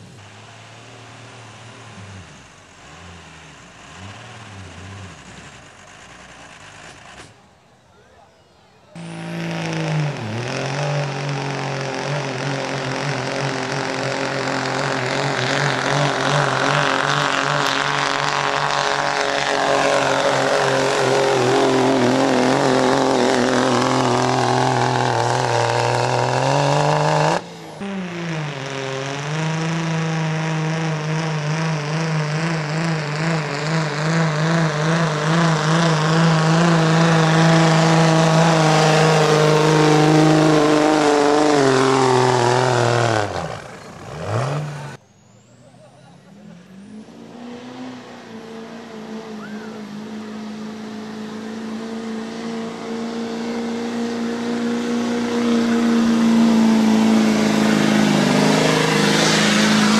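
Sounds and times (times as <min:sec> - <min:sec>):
truck engine at high revs: 0:00.0 - 0:59.9.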